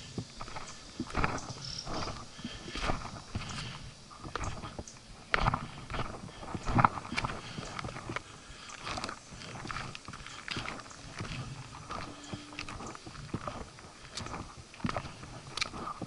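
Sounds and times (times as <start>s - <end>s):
footsteps on rocky trail: 0.0s - 16.0s.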